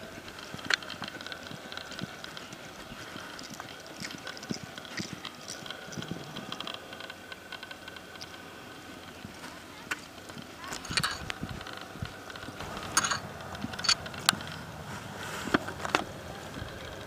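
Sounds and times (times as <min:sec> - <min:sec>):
horse hoofbeats on dirt: 0:00.0 - 0:17.0.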